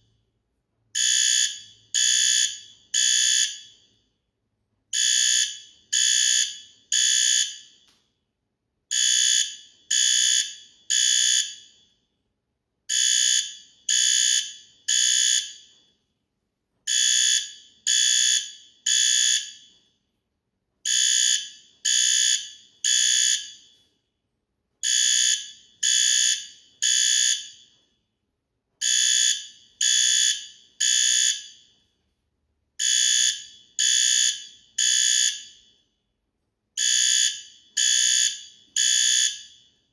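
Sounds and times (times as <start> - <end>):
fire alarm blasts: 0.9 - 4.2, 4.9 - 8.0, 8.9 - 12.1, 12.9 - 16.1, 16.9 - 20.2, 20.8 - 24.0, 24.8 - 28.0, 28.8 - 32.0, 32.8 - 36.0, 36.8 - 39.9.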